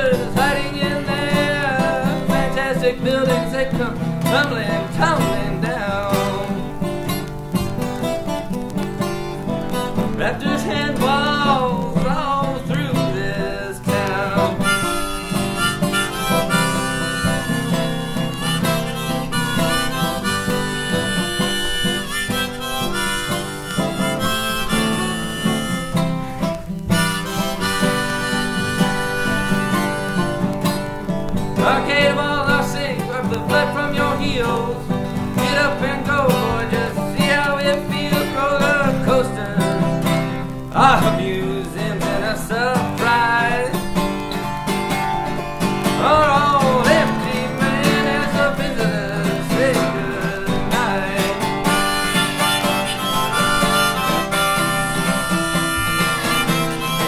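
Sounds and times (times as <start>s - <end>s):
acoustic guitar chords: 0.0s - 57.0s
harmonica bending melody: 0.0s - 57.0s.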